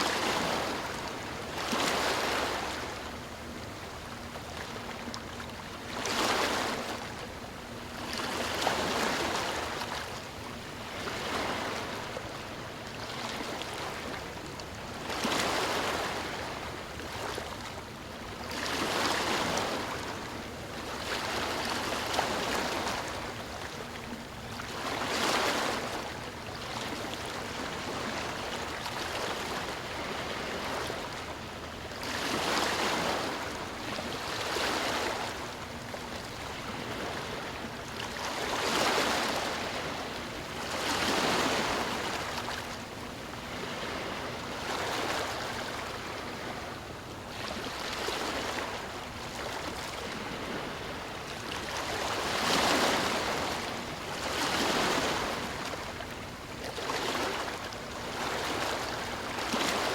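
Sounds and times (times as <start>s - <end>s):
sea waves breaking: 0.0s - 59.9s.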